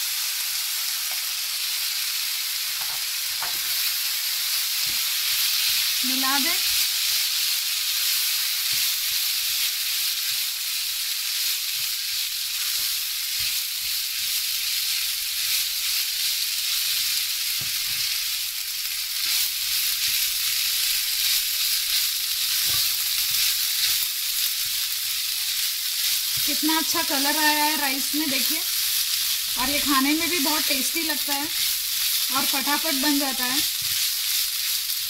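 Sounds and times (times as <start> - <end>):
fried rice sizzling in a pan: 0.0 - 35.0.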